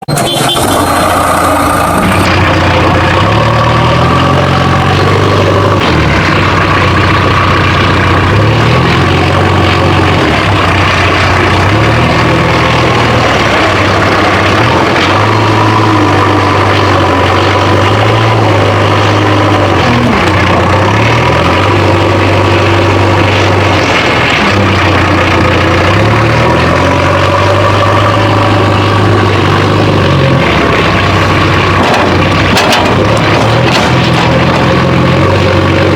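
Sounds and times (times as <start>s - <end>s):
heavy vehicle engine revving: 0.0s - 35.9s.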